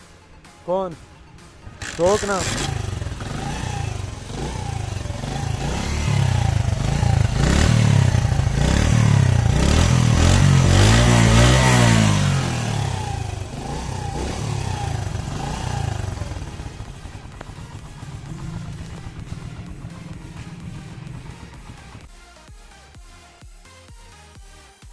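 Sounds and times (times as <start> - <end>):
motorcycle engine revving: 1.3 - 22.1.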